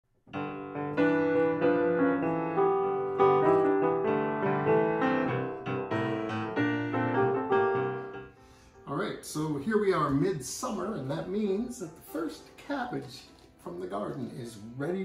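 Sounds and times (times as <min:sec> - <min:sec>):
solo piano melody: 0:00.2 - 0:14.9.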